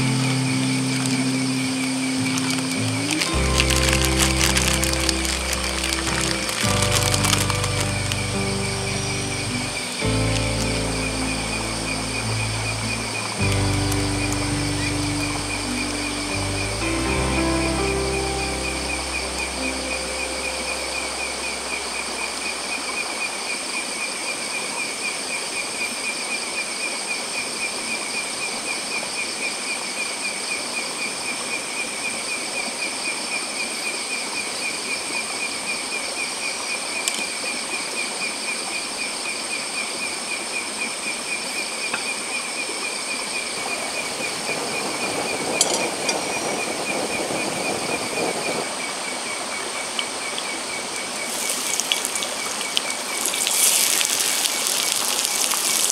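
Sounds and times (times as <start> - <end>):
flowing stream: 0.0 - 34.1, 34.8 - 55.9
night insects trilling: 0.0 - 55.9.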